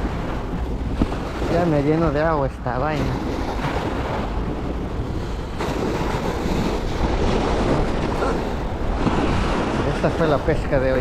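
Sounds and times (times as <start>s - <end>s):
water noise: 0.0s - 11.0s
wind over microphone: 0.0s - 11.0s.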